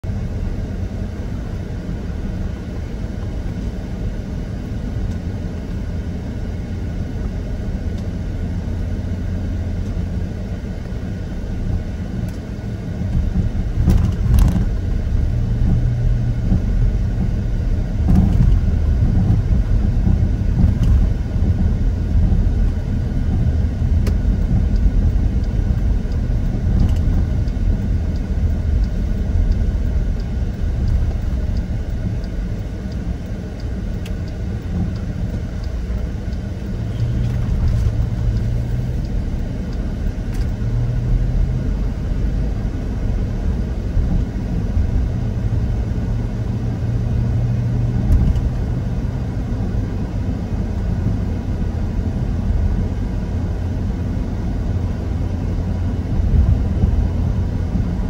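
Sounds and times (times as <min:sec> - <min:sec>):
vehicle rumble: 0:00.0 - 0:58.0.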